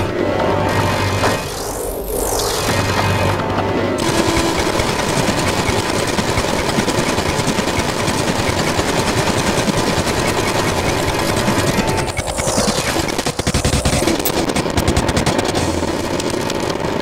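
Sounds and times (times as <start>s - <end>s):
dense fast piano notes: 0.0s - 17.0s.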